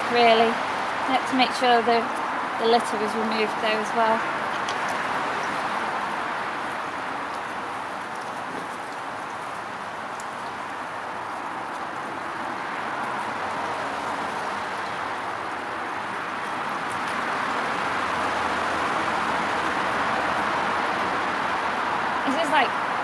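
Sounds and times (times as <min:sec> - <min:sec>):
brook water running over stones: 0:00.0 - 0:23.0.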